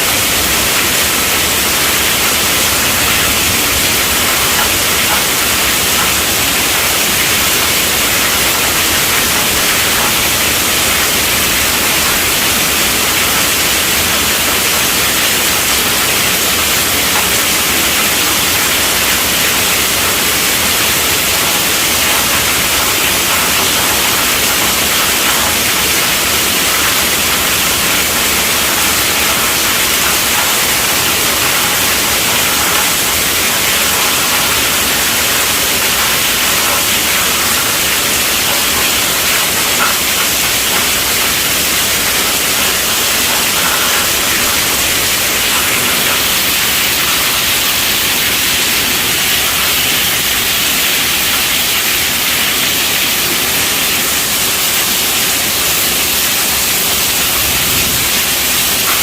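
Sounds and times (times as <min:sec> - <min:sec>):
heavy rain drumming on tent roof: 0:00.0 - 0:59.0.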